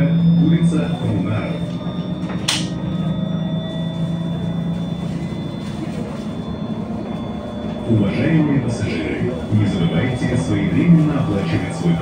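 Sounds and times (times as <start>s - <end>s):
bus motor and road hum: 0.0s - 12.0s
high whining electric drive: 0.0s - 12.0s.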